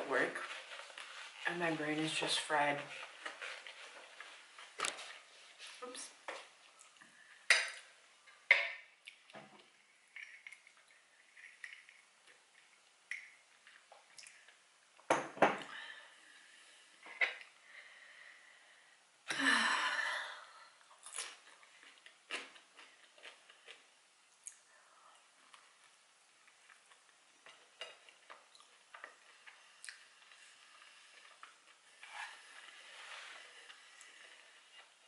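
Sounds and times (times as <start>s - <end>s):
soft chewing: 0.3s - 2.2s, 2.8s - 14.8s, 20.6s - 35.0s.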